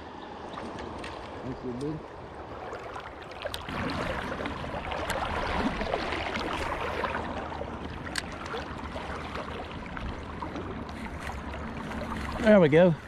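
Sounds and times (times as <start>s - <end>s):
river water sloshing and gurgling: 0.0s - 13.0s.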